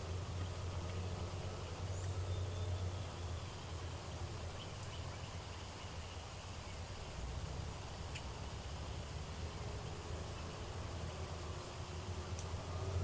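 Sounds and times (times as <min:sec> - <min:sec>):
distant bird chirps: 0:00.0 - 0:12.6.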